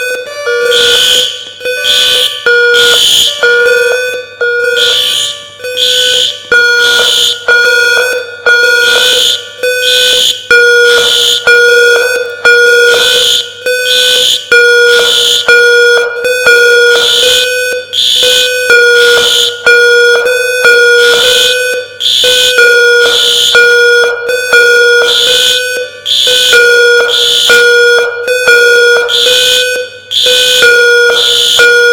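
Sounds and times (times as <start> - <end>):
fire alarm blasts: 0.0 - 31.9.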